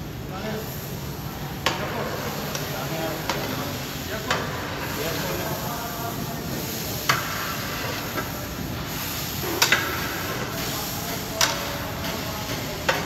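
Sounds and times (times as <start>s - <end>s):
cooking hiss: 0.0s - 13.0s
steel paddle stirring in pot: 1.6s - 13.0s.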